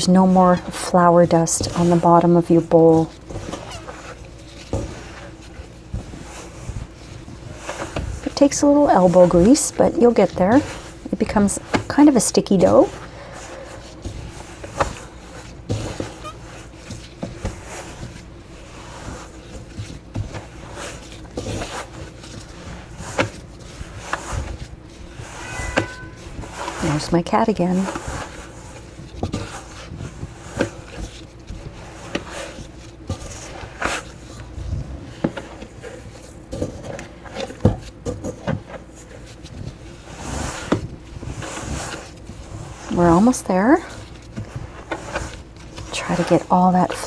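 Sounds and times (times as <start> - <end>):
dough squelching: 0.0 - 47.0.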